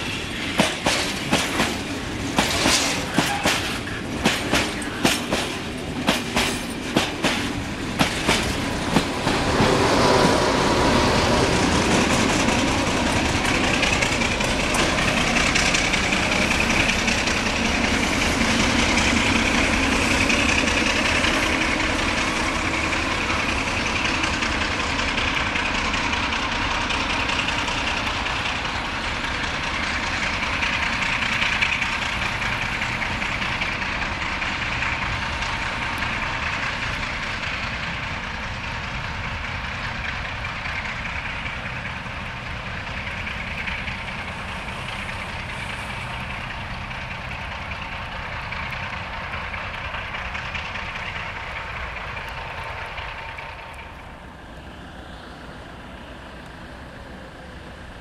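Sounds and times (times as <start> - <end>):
diesel locomotive engine drone: 0.0 - 58.0
train wheels clicking on rail joints: 0.0 - 58.0.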